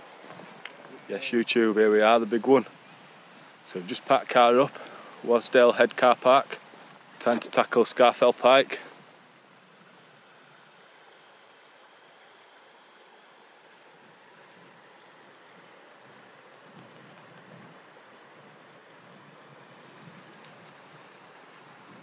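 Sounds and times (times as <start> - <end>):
stream running over stones: 0.0 - 22.0.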